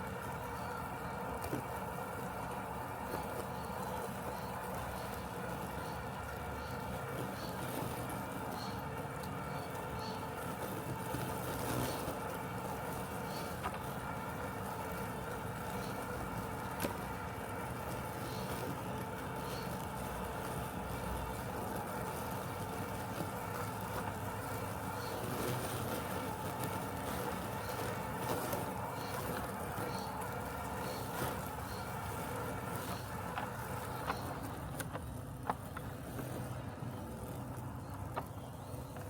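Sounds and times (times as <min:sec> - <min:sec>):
robotic lawn mower humming: 0:00.0 - 0:39.0.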